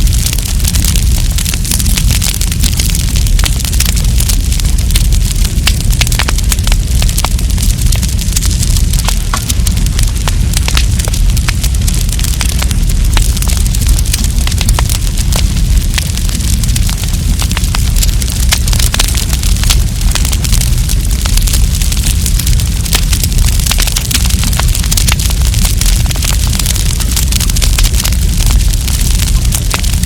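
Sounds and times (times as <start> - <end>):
campfire crackling and popping: 0.0 - 30.0
fire low rumble and hiss: 0.0 - 30.0.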